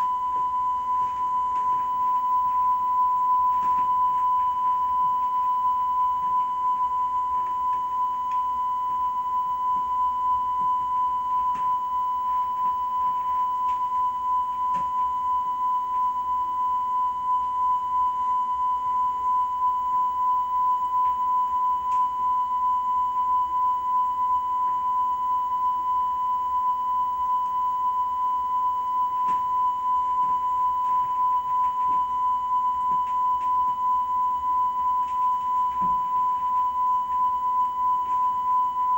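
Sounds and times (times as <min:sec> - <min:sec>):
high-pitched tone: 0:00.0 - 0:38.9.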